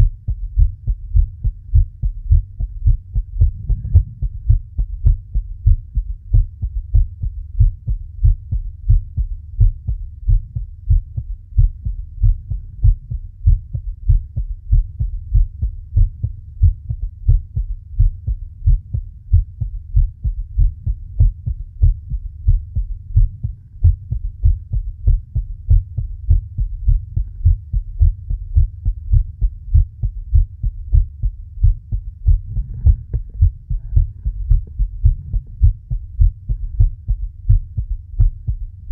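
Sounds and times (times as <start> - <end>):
human heartbeat: 0.0 - 38.9.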